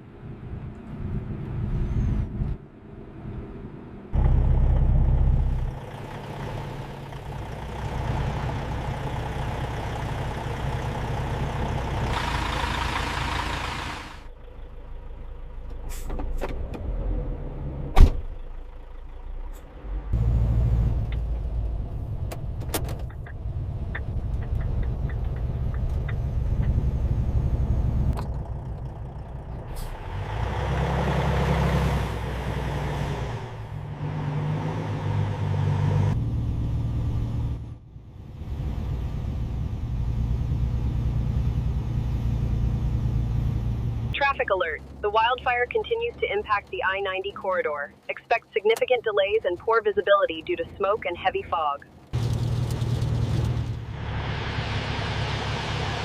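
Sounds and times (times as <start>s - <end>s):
truck engine running: 0.0s - 16.4s, 18.2s - 56.0s
road noise: 0.0s - 56.0s.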